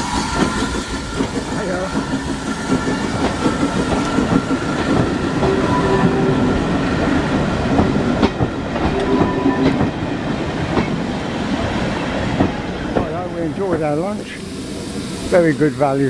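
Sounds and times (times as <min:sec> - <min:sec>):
train clicks and knocks: 0:00.0 - 0:14.5
train rumble: 0:00.0 - 0:16.0.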